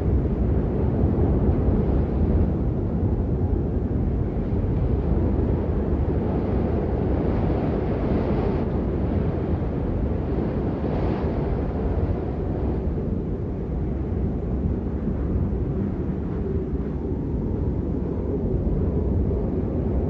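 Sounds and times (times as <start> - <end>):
blizzard wind blowing: 0.0 - 20.0.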